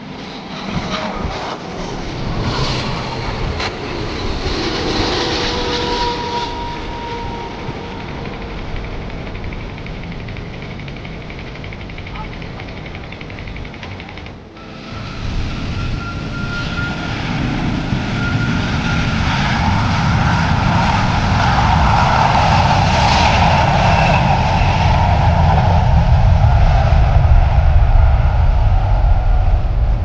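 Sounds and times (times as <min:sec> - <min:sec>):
faint engine whine: 0:00.0 - 0:30.0
jet engines roaring: 0:00.0 - 0:30.0.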